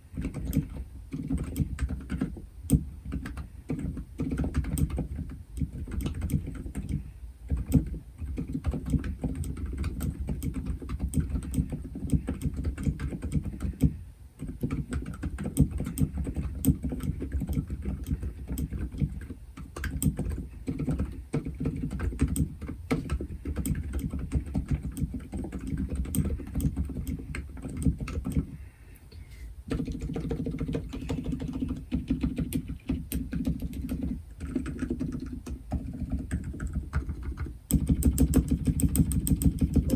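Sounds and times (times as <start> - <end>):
fast typing on a keyboard: 0.0 - 28.5, 29.7 - 39.9.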